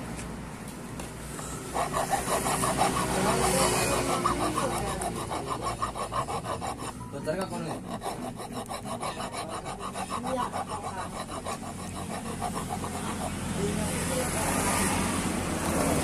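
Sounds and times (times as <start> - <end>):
file rasping on lead: 1.3 - 16.0.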